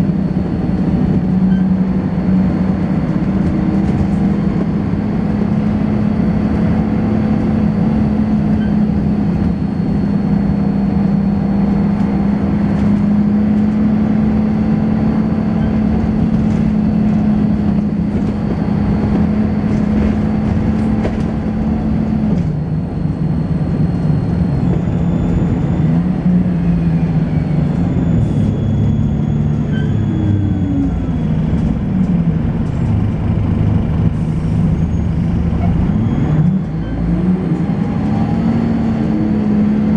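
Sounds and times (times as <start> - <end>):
rattly ride: 0.0 - 39.8
bus engine running: 0.0 - 39.9
high-pitched whine: 5.5 - 39.6.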